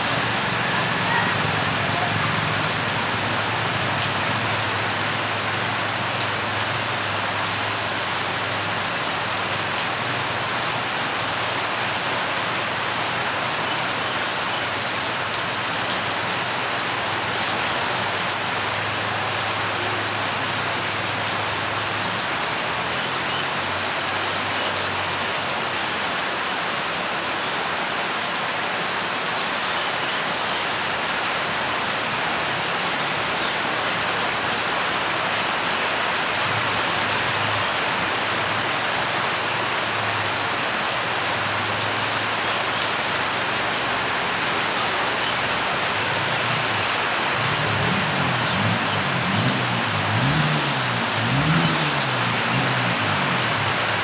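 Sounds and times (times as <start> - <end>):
heavy rain splashing on water: 0.0 - 54.0.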